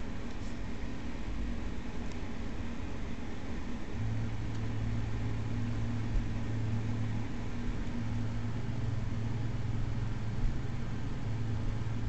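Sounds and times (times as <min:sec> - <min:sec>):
higher hum tone: 0:00.0 - 0:12.0
low mechanical hum: 0:00.0 - 0:12.0.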